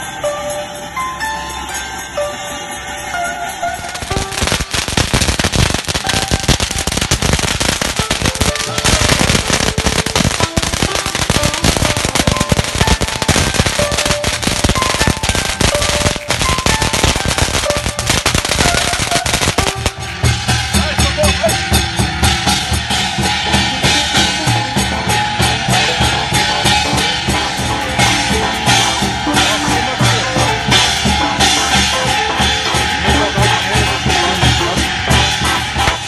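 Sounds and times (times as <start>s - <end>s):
firecrackers crackling: 0.0s - 36.0s.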